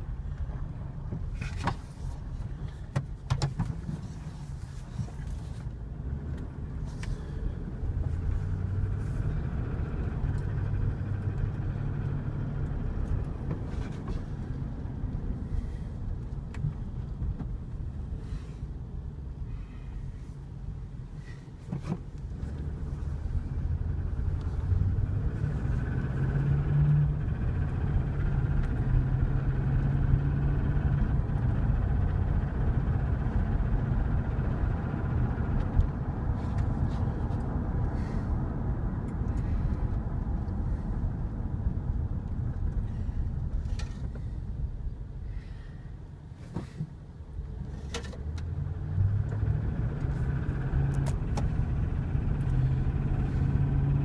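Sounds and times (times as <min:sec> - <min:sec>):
engine running: 0:00.0 - 0:54.0
road rumble: 0:00.0 - 0:54.0.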